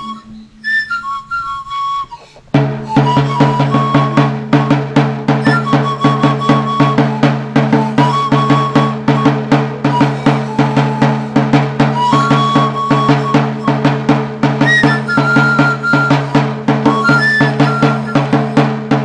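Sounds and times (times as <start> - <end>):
high note melody: 0.0 - 0.7, 2.6 - 19.0
quick drum beat: 2.5 - 19.0.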